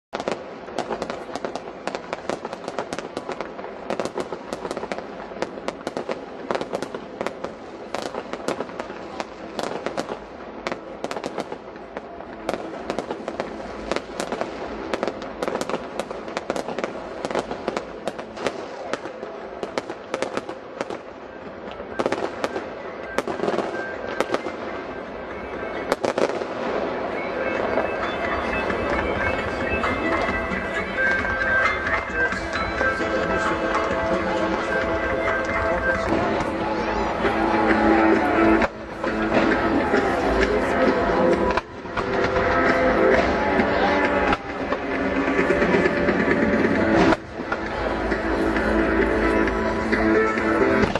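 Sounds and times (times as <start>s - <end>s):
background murmur: 0.2s - 50.9s
fireworks bangs and crackles: 0.2s - 50.9s.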